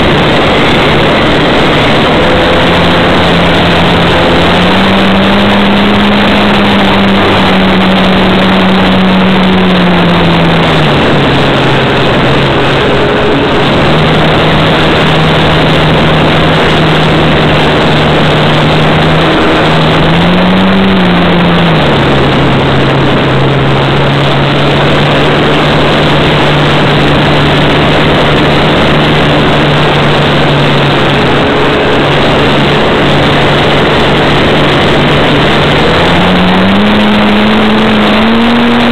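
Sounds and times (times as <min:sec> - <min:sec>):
model plane motor and propeller: 0:00.0 - 0:38.9
wind noise: 0:00.0 - 0:38.9.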